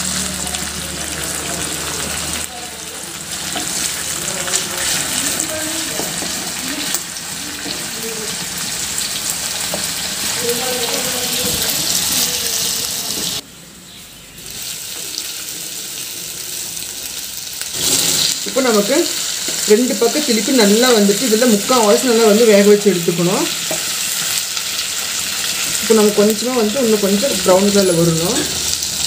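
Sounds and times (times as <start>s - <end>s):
chicken sizzling in hot oil: 0.0s - 13.4s, 14.4s - 29.0s.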